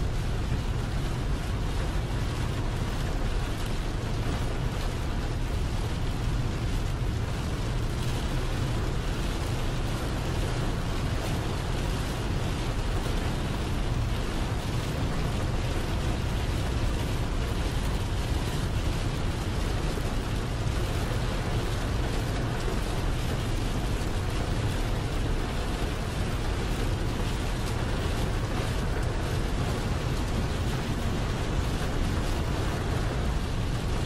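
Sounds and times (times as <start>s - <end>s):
rain and tyre spray hiss: 0.0s - 34.0s.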